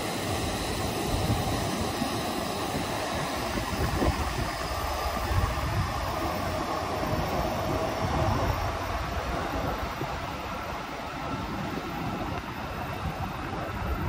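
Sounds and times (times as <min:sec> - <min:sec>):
faint steady whine: 0:00.0 - 0:14.0
trains rumbling past: 0:00.0 - 0:14.0
wind buffeting microphone: 0:00.0 - 0:14.0.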